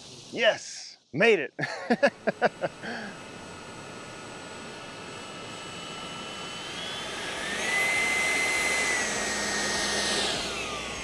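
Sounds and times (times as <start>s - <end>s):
electric ducted fan whining: 0.0s - 11.0s.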